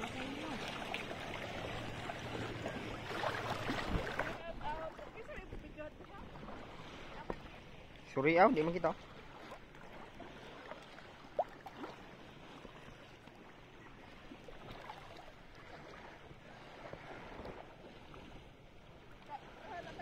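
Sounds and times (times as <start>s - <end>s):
shallow sea water washing: 0.0s - 20.0s.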